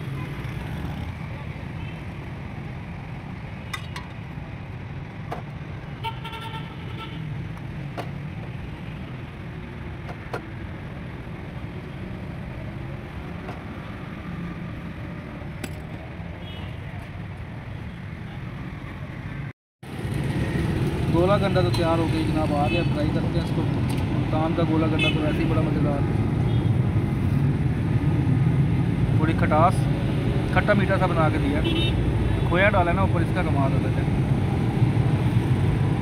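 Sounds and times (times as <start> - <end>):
rumble of passing vehicles: 0.0 - 36.0.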